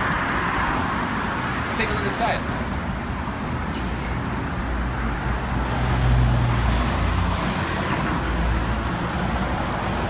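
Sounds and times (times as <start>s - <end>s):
cars passing: 0.0s - 10.0s.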